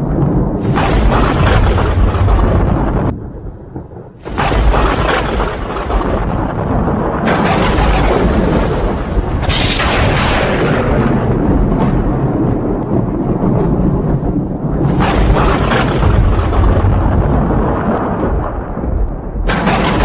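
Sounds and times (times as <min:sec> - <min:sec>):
loud thunder claps: 0:00.0 - 0:20.0
thunder rumbling: 0:00.0 - 0:20.0.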